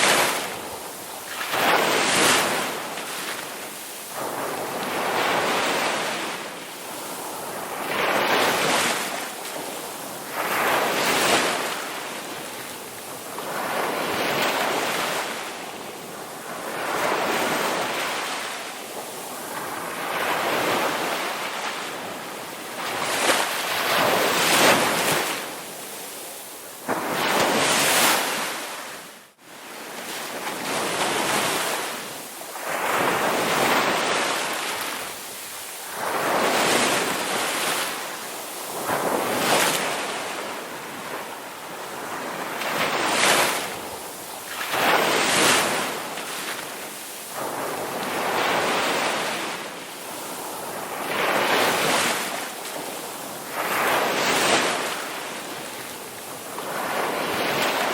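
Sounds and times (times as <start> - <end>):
sea waves breaking on a beach: 0.0 - 57.9.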